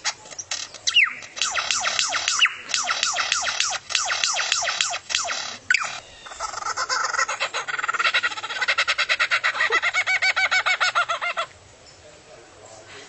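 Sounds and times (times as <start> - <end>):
bird calling in fast notes: 0.0 - 11.6.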